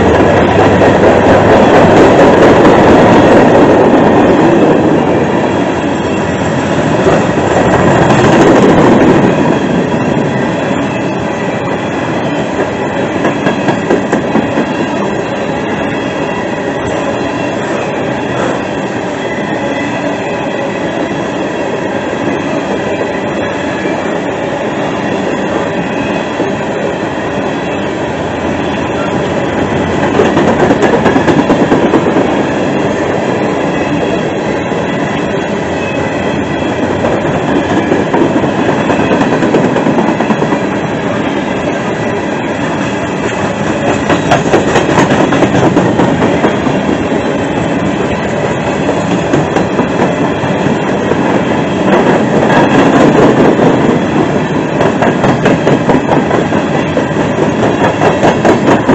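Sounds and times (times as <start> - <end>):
freight train rolling past: 0.0 - 58.9.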